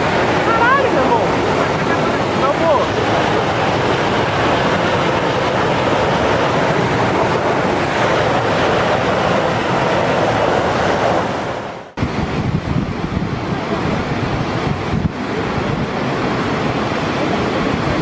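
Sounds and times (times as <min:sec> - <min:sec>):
water rushing from dam gates: 0:00.0 - 0:18.0.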